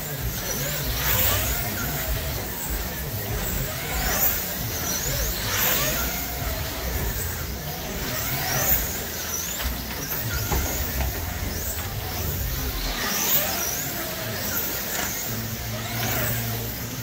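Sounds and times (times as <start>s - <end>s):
slot car motors whining: 0.0s - 17.0s.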